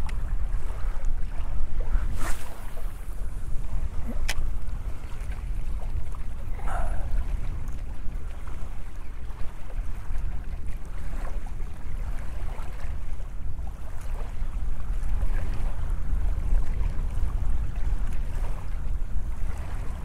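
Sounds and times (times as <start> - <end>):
small waves lapping: 0.0 - 20.0
wind buffeting microphone: 0.0 - 20.0.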